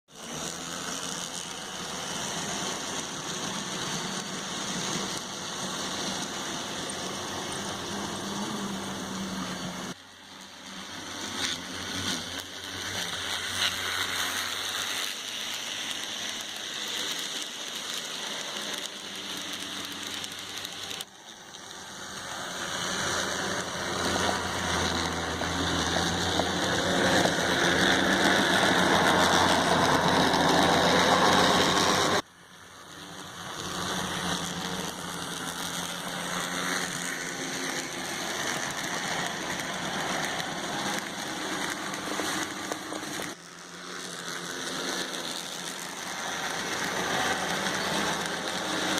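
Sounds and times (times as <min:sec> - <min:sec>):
model train whirring on track: 0:00.1 - 0:48.9.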